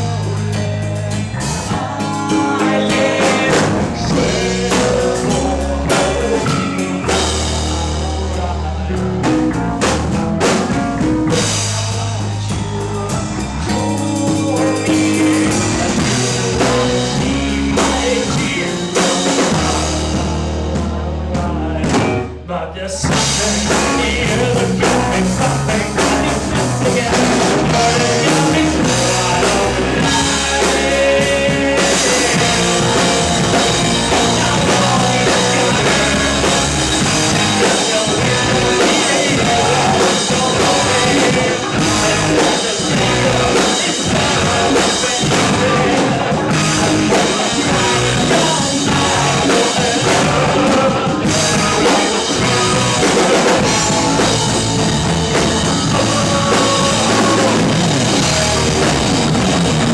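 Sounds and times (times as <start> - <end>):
person singing: 0.0 - 9.6, 11.3 - 59.2
live rock band playing: 0.0 - 59.9.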